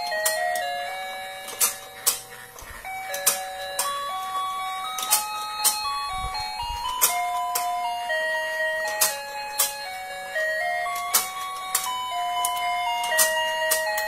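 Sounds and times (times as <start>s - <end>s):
toy electronic tune: 0.0s - 14.0s.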